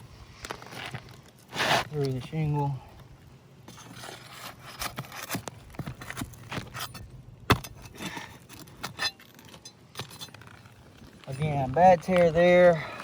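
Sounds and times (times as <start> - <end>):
tools scraping roof shingles: 0.6 - 2.0, 3.7 - 13.0.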